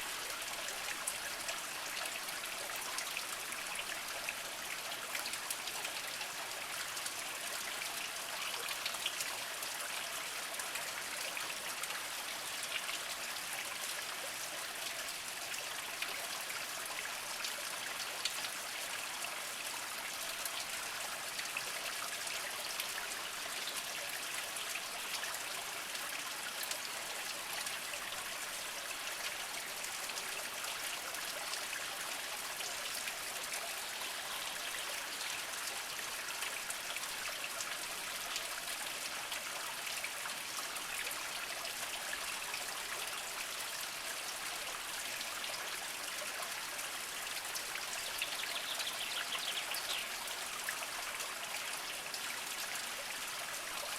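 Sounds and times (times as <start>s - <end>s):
spring water trickling over rocks: 0.0s - 53.9s.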